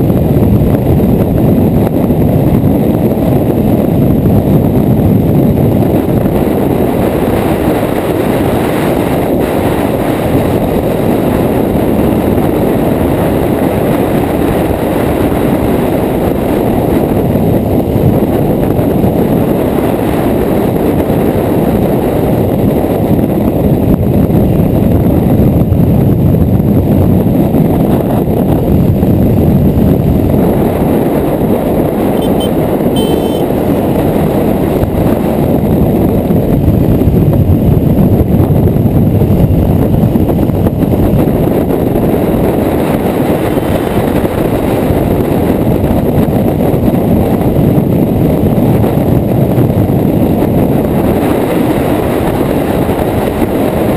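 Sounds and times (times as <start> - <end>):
motorcycle engine running: 0.0 - 53.9
wind rushing on microphone: 0.0 - 53.9.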